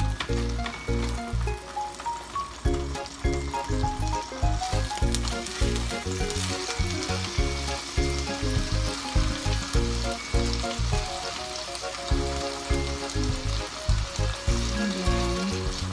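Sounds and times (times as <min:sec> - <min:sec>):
background music with a beat: 0:00.0 - 0:15.9
fish sizzling in a frying pan: 0:00.0 - 0:15.9.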